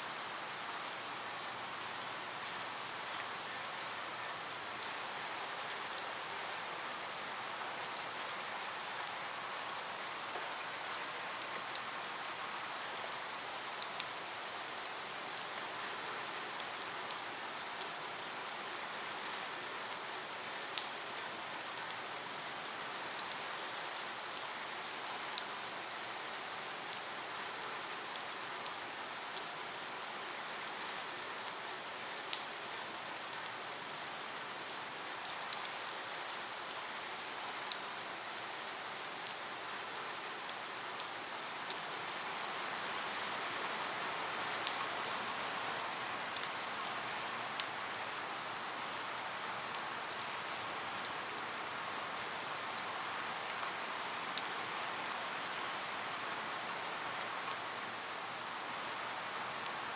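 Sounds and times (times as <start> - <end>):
steady rain falling: 0.0 - 59.9
raindrops ticking on a surface: 4.3 - 8.1, 9.0 - 59.8.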